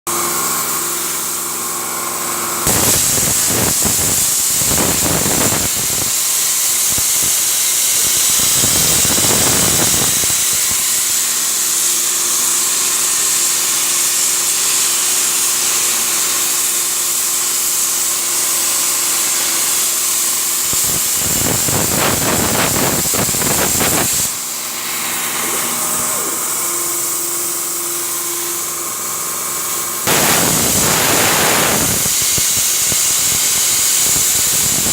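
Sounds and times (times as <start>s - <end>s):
plasma cutter torch hissing: 0.4s - 34.9s.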